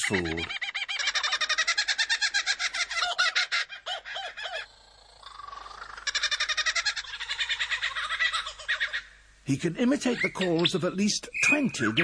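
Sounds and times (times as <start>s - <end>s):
lyrebird chattering calls: 0.0s - 9.2s, 9.9s - 12.0s.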